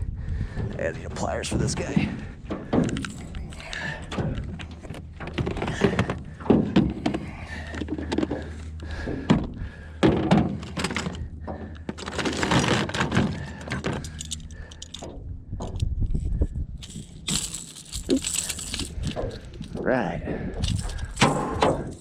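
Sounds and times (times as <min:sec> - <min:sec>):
knocks and clatter in boat: 0:00.4 - 0:16.4, 0:18.8 - 0:22.0.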